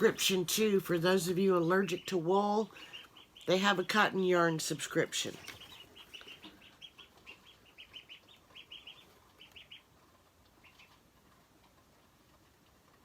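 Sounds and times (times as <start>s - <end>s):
ducklings peeping: 0.0s - 12.2s.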